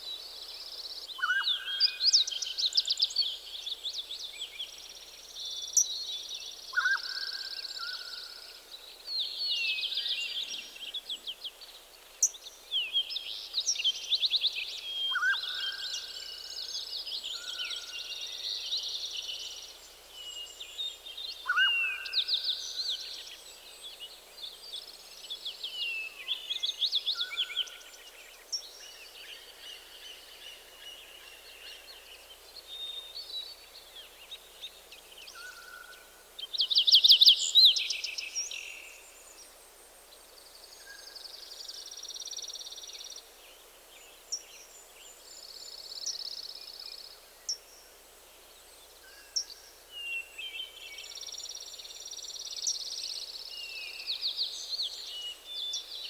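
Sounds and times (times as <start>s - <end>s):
faint steady hiss: 0.0s - 56.0s
songbirds singing: 0.0s - 56.0s.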